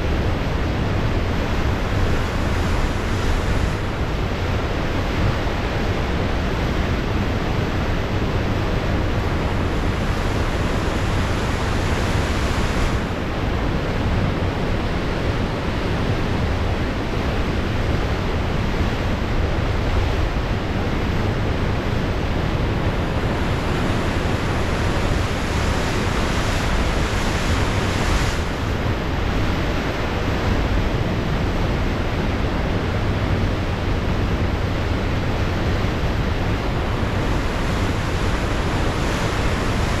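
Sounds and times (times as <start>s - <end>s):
ocean surf washing: 0.0s - 40.0s
wind on microphone: 0.0s - 40.0s.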